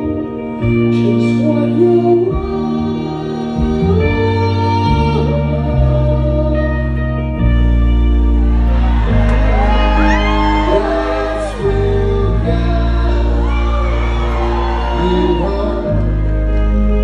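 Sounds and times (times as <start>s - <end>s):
person singing: 0.0s - 7.4s, 9.4s - 17.0s
live band playing: 0.0s - 17.0s.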